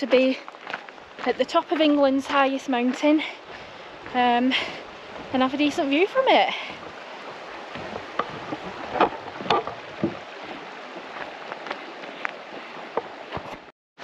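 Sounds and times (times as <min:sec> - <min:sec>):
footsteps on stony path: 0:00.0 - 0:13.7.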